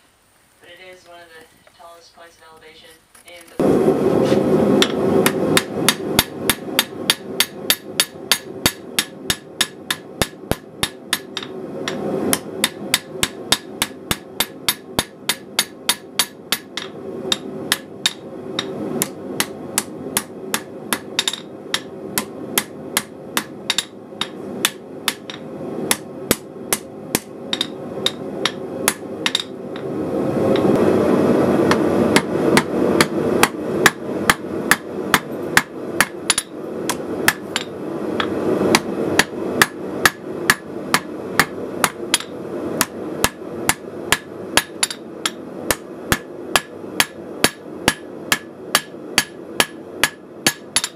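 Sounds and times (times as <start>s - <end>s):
steady rushing noise: 3.6s - 50.9s
hammer striking steel on anvil: 4.8s - 29.8s, 31.7s - 50.9s.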